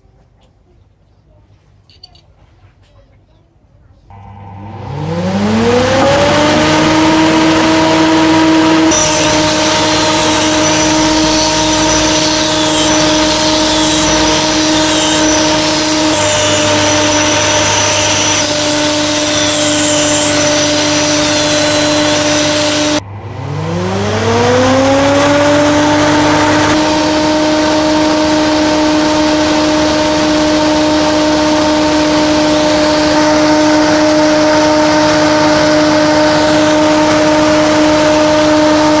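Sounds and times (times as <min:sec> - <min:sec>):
exhaust fan motor humming: 0:04.1 - 0:39.0.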